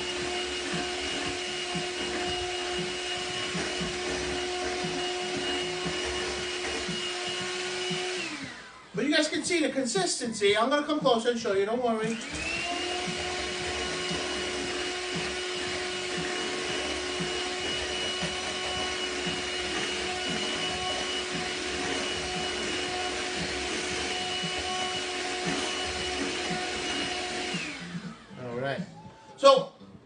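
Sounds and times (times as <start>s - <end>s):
electric hand mixer whirring: 0.0s - 10.5s, 11.7s - 29.0s.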